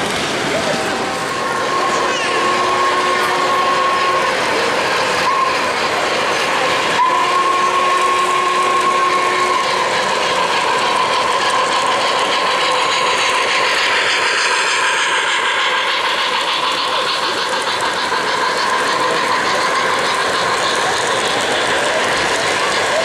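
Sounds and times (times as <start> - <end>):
train wheels rumbling and clicking: 0.0 - 23.0
model train steam whistle: 1.3 - 23.0.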